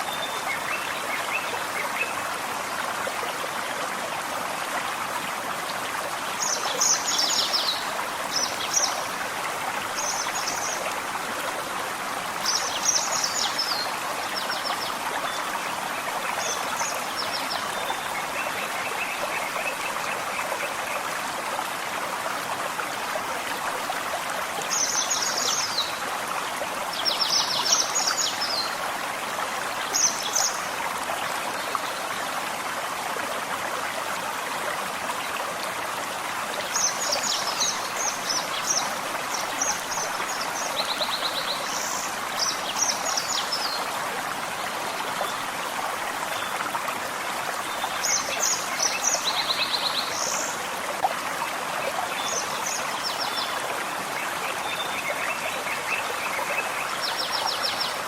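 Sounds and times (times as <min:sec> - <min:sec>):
forest stream running: 0:00.0 - 0:58.0.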